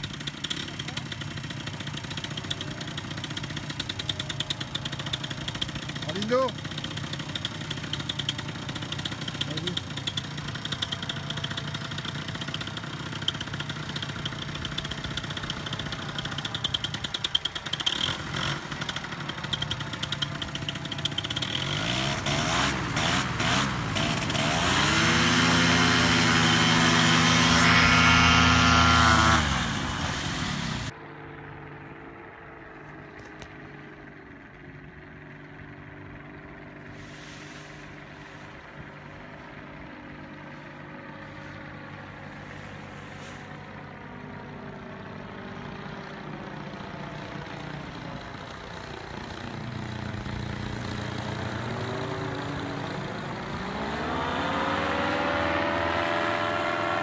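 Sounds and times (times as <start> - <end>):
distant paramotor engine overhead: 0.0 - 57.0
paramotor engine at high power: 0.0 - 57.0.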